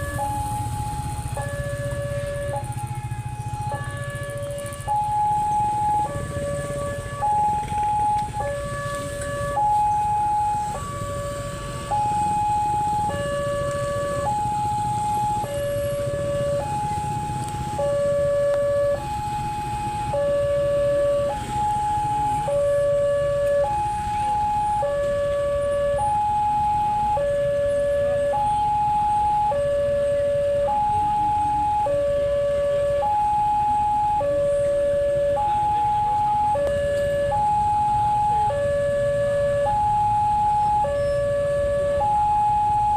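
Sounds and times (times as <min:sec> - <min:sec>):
two-tone level crossing alarm: 0:00.0 - 0:42.9.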